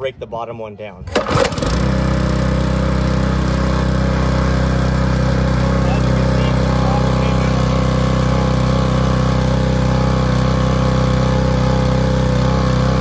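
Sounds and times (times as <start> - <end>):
gas engine running: 1.1 - 13.0.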